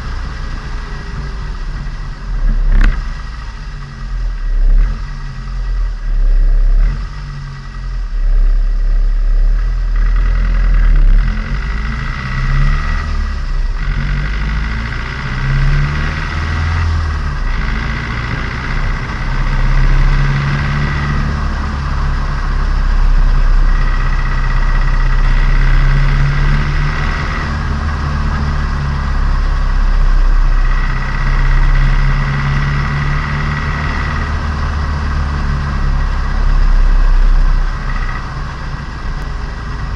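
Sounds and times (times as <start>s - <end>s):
car engine running: 0.0s - 39.9s
high steady whine: 0.0s - 39.9s.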